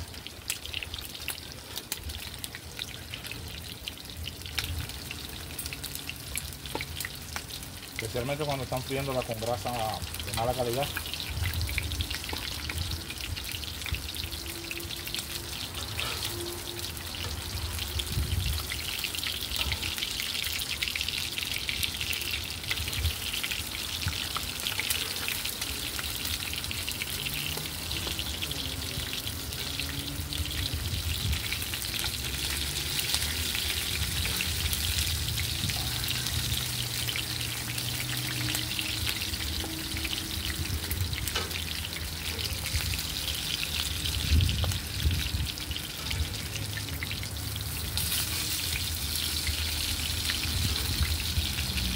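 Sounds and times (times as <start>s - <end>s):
oil sizzling and crackling: 0.0s - 51.9s.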